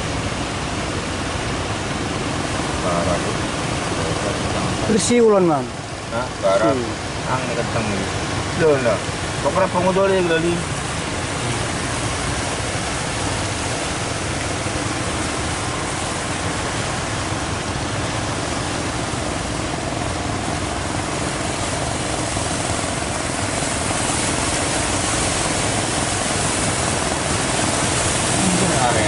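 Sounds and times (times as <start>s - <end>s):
boat diesel engines: 0.0s - 29.0s
surf and breaking waves: 0.0s - 29.0s.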